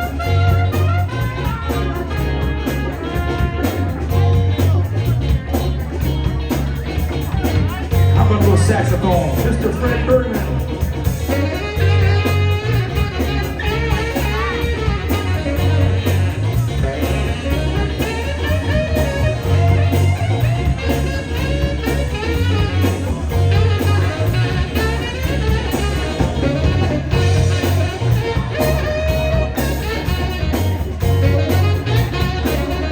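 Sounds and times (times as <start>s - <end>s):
saxophone lead: 0.0s - 32.9s
soul band instrumental groove: 0.0s - 32.9s.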